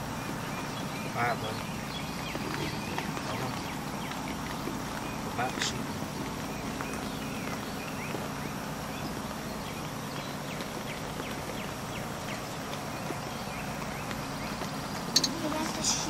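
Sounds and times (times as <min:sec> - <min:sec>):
hogs feeding and rooting: 0:00.0 - 0:16.0.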